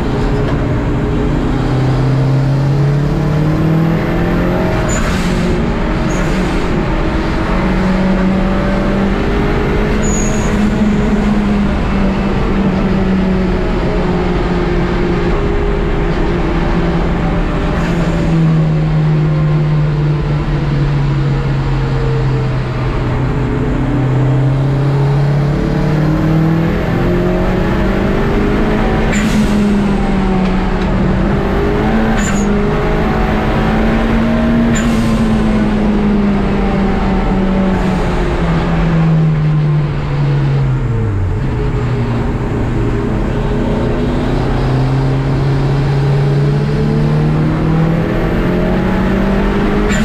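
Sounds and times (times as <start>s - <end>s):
race car engine accelerating: 0.0s - 50.0s.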